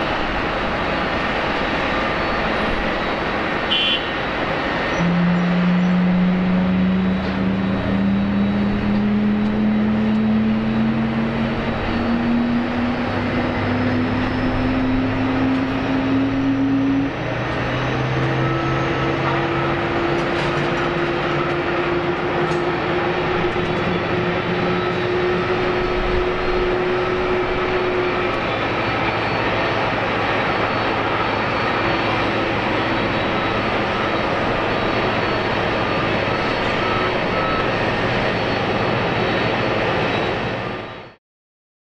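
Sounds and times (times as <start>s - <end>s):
jet engines rumbling: 0.0s - 41.2s.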